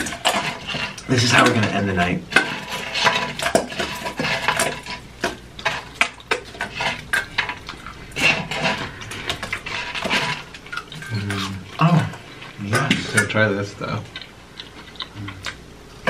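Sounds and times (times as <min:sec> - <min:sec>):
chewing and crunching: 0:00.0 - 0:16.0.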